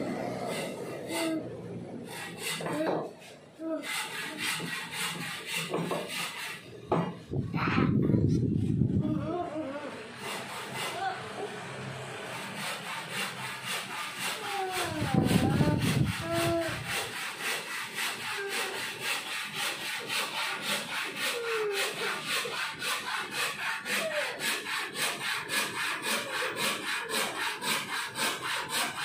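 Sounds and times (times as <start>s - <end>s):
hand saw cutting wood: 0.0s - 7.2s, 9.6s - 29.0s.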